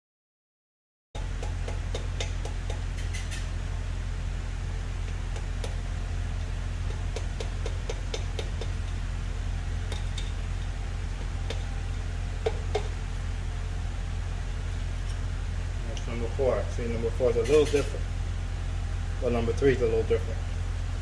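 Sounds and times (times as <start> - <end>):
steady low hum: 1.2 - 21.0.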